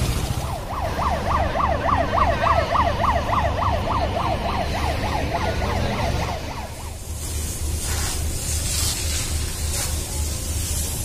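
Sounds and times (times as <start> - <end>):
fire engine siren yelping: 0.0 - 10.0
engine rumble: 0.0 - 11.0.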